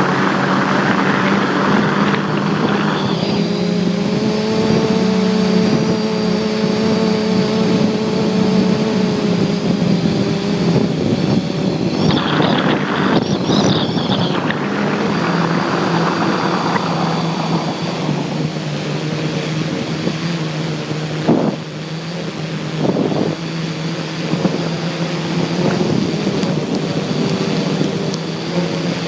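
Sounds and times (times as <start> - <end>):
drone motors humming: 0.0 - 29.0
wind buffeting microphone: 0.0 - 29.0.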